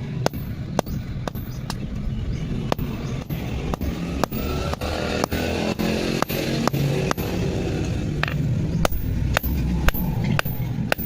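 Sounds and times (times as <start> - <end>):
steady low rumble: 0.0 - 11.0
hammer striking metal anvil: 0.2 - 1.8, 2.7 - 11.0.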